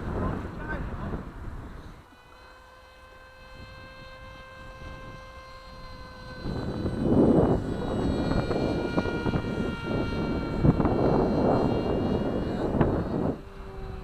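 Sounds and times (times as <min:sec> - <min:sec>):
model airplane engine whining: 0:00.0 - 0:14.0.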